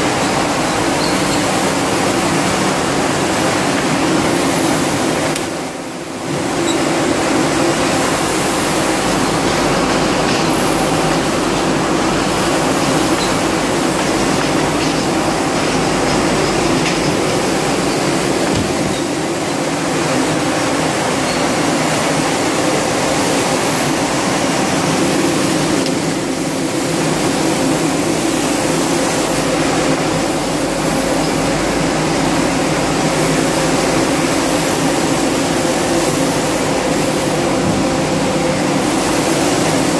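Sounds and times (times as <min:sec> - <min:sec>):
production line machinery running: 0:00.0 - 0:39.9.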